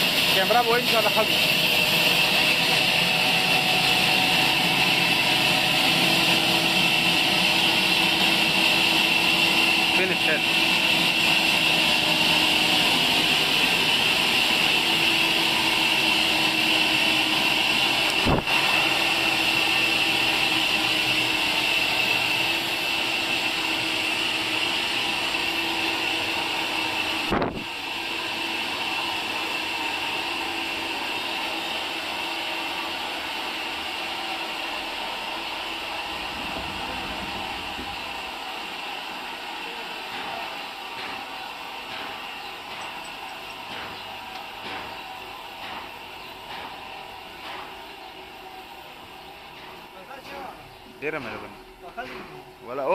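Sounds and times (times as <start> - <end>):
saw blade hissing whine: 0.0 - 50.2
band saw motor running: 0.0 - 52.9.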